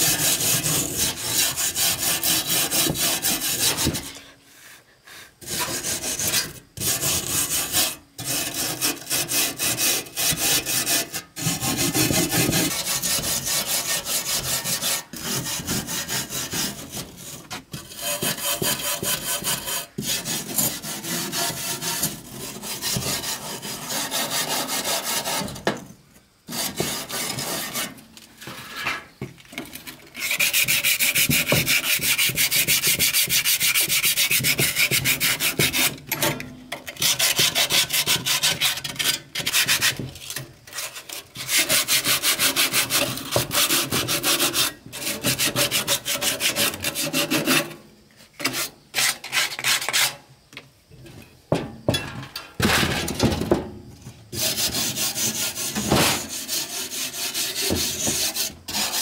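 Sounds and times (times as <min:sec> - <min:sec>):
rubbing and scraping on wood: 0:00.0 - 0:25.9, 0:26.5 - 0:50.2, 0:54.3 - 0:59.0.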